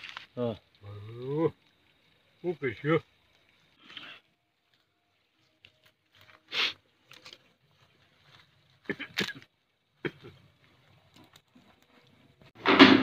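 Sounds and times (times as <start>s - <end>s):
fire pops and snaps: 0.0s - 13.0s
wood fire crackling: 0.0s - 13.0s.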